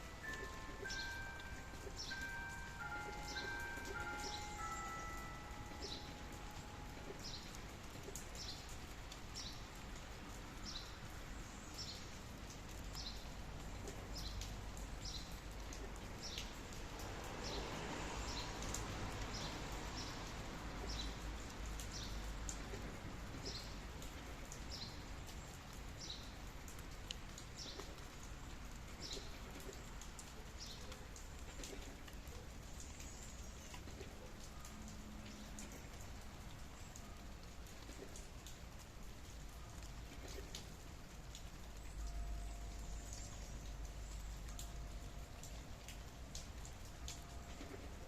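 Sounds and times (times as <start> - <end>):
rain hiss: 0.0 - 48.0.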